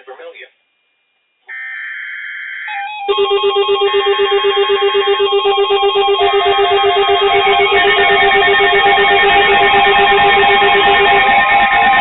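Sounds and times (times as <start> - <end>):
buzzing data tones: 1.5 - 12.0
pulsing electronic alarm: 1.5 - 12.0.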